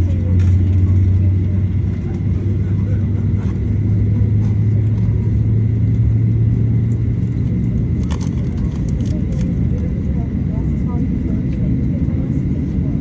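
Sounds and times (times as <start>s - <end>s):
airplane cabin rumble: 0.0s - 13.0s
low hum: 0.0s - 13.0s.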